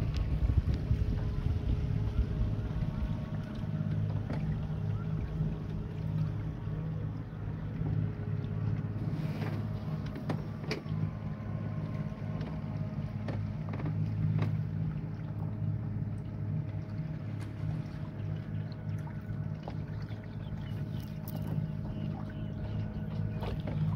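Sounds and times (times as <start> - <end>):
boat motor droning: 0.0 - 23.9.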